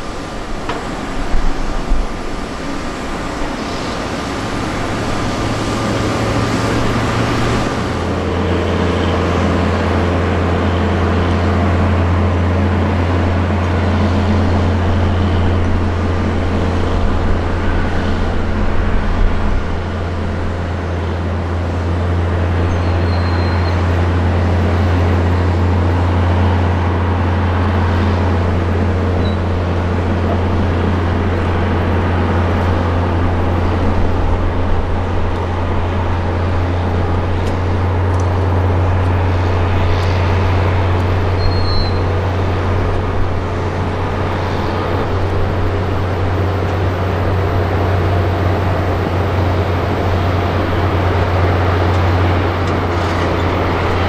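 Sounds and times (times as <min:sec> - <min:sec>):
jet engine rush: 0:00.0 - 0:54.0
jet engines humming: 0:00.0 - 0:54.0.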